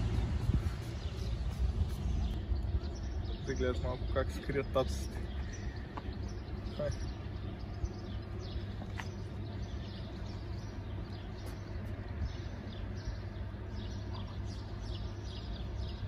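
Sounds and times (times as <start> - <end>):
low street rumble: 0.0 - 16.0
small birds chirping: 0.0 - 16.0.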